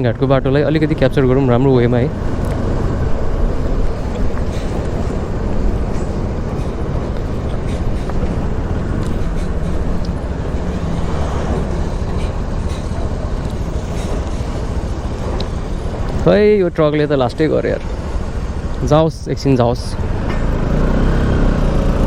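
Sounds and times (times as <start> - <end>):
wind rushing over microphone: 0.0 - 20.2
motorcycle engine: 0.0 - 22.0.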